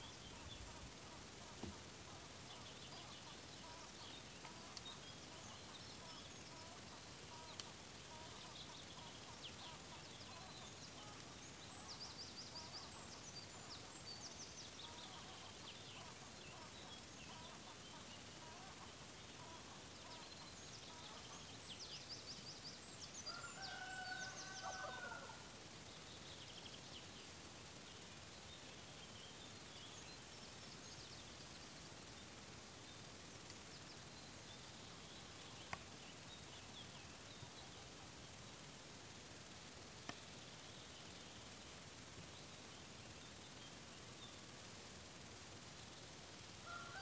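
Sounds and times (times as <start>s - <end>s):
small birds singing: 0.0s - 47.0s.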